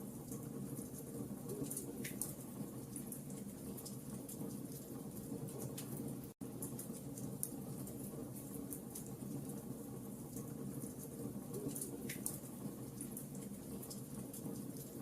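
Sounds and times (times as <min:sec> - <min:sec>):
campfire burning: 0:00.0 - 0:15.0
fire popping and snapping: 0:00.2 - 0:15.0.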